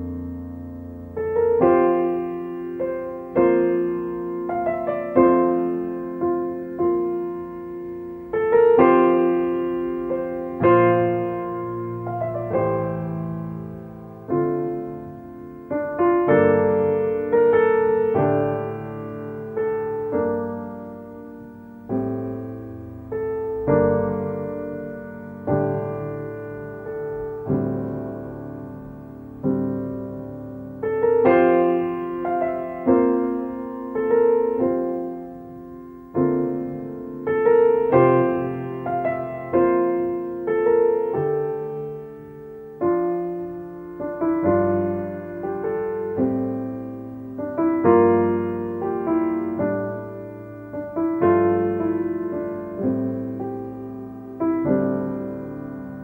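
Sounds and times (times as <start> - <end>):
slow solo piano music: 0.0 - 56.0.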